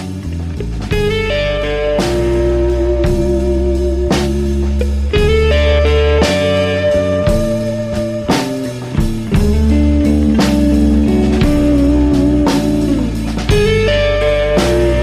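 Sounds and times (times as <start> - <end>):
blues music: 0.0 - 15.0
drum kit beat: 0.0 - 15.0
electric guitar: 0.0 - 15.0.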